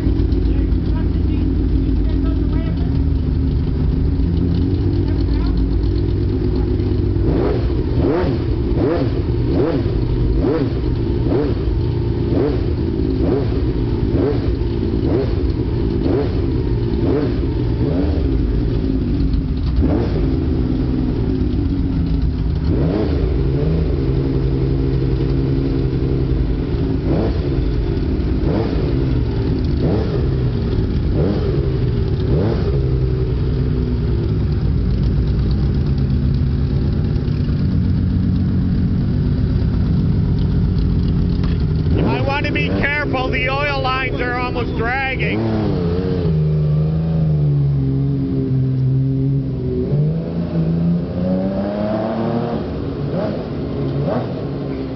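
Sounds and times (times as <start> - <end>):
engine rattle and clicking: 0.0 - 46.3
motorcycle engine revving: 0.0 - 54.8.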